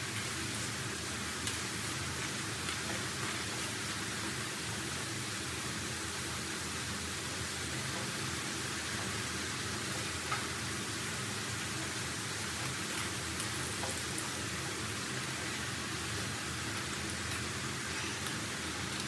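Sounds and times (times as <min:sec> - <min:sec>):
fries sizzling in hot oil: 0:00.0 - 0:19.0.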